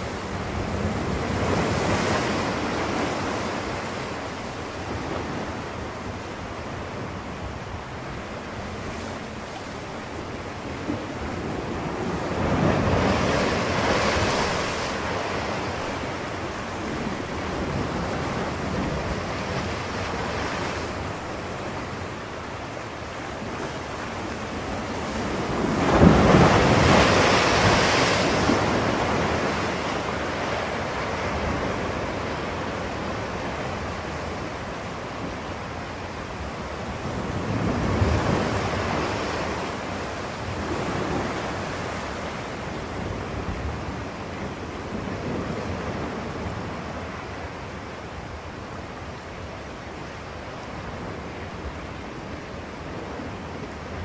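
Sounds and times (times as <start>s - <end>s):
waves washing in: 0.0s - 54.0s.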